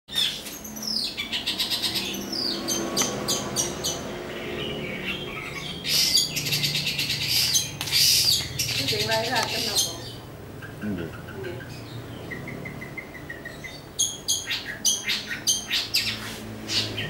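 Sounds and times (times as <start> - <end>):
bird singing: 0.1 - 17.0.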